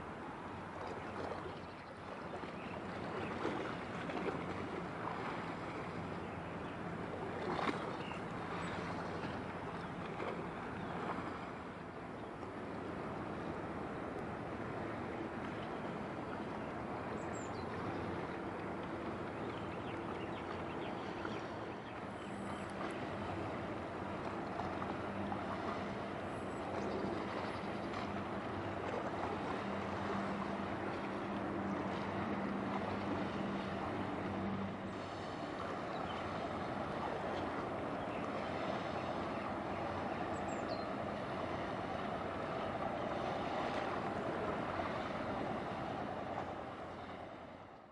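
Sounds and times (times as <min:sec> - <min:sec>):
distant ship engines humming: 0:00.0 - 0:47.9
water: 0:00.0 - 0:47.9
wind: 0:00.0 - 0:47.9.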